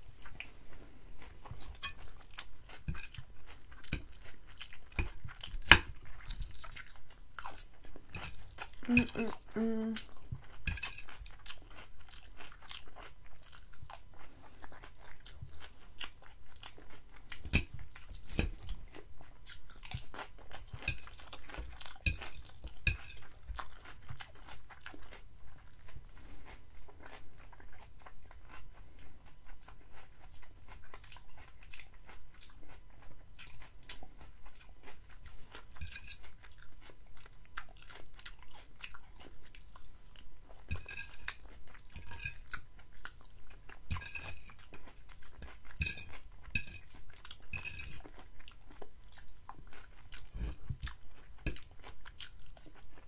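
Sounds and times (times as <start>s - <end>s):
chewing crunchy salad: 0.0s - 53.0s.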